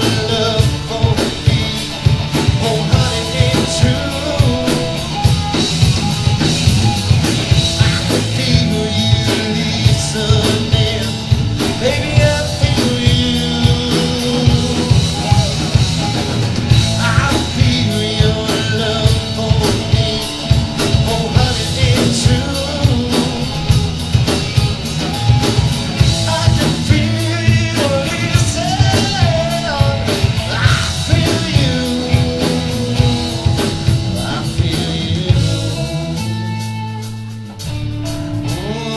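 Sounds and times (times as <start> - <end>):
drum kit beat: 0.0 - 38.9
live rock band playing: 0.0 - 38.9.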